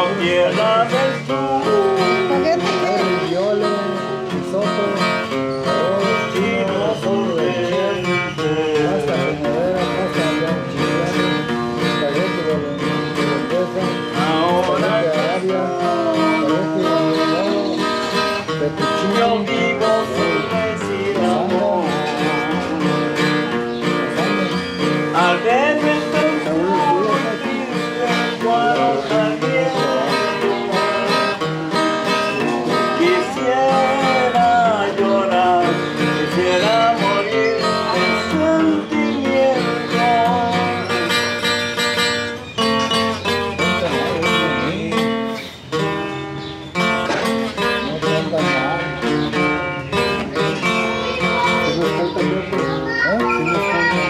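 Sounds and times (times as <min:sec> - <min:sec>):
man singing: 0:00.0 - 0:45.9, 0:46.8 - 0:54.0
acoustic guitar strumming: 0:00.0 - 0:54.0.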